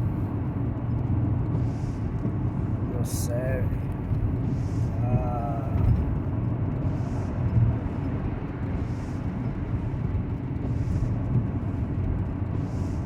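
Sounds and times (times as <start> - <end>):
lorry engine and tyre rumble: 0.0 - 13.0.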